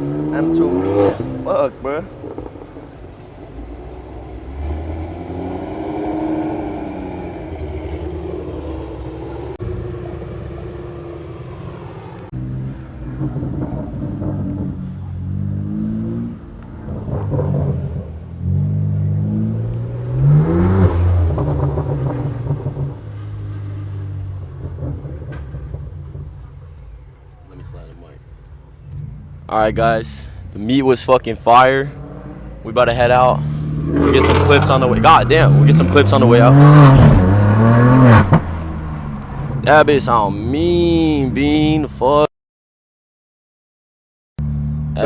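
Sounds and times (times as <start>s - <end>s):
car engine revving: 0.0s - 42.2s, 44.4s - 45.0s.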